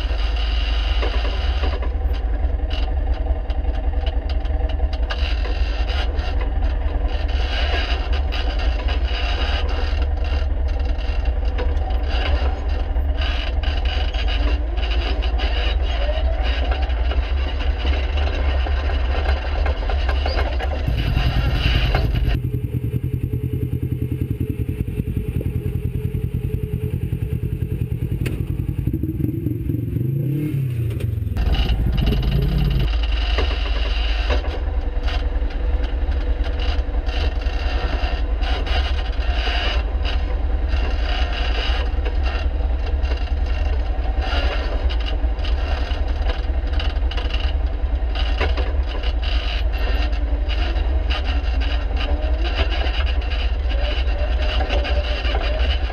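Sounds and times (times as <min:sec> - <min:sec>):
rattling and scraping over rock: 0:00.0 - 0:29.0, 0:30.3 - 0:55.9
vehicle engine running low: 0:00.0 - 0:55.9.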